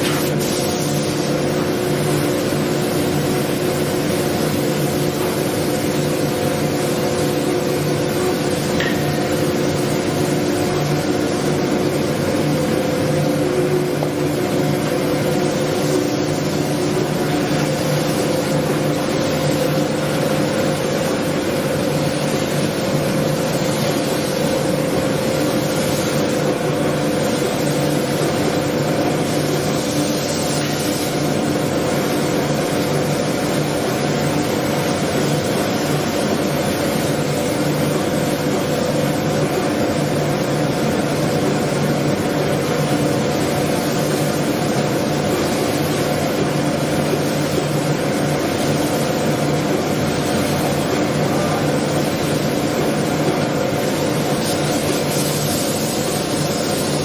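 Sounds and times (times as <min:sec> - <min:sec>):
dust extraction system humming: 0:00.0 - 0:57.0.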